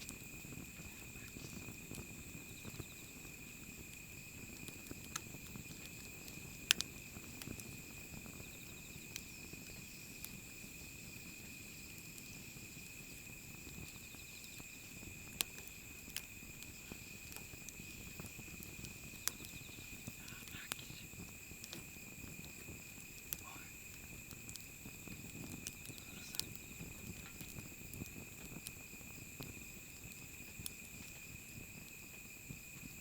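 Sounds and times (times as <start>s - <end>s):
crickets chirping: 0.0s - 33.0s
wood fire crackling and popping: 0.0s - 33.0s.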